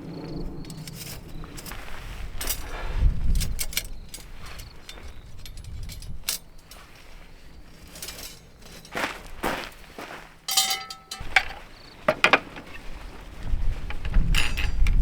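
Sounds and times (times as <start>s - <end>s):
small hard objects clinking: 0.1s - 9.8s, 10.4s - 13.1s.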